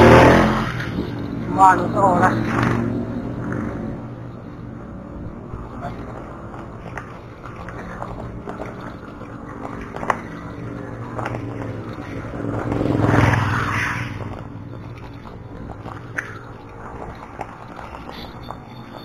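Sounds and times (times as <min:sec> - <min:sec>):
bicycle tyres crunching on gravel: 0:00.0 - 0:19.0.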